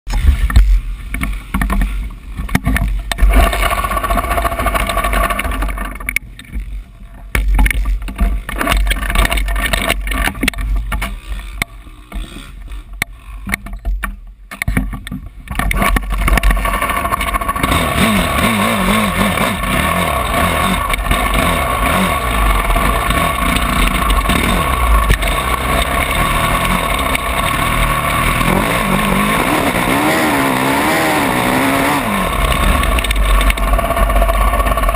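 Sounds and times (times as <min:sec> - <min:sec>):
motocross bike engine running: 0:00.1 - 0:13.9, 0:15.6 - 0:34.9.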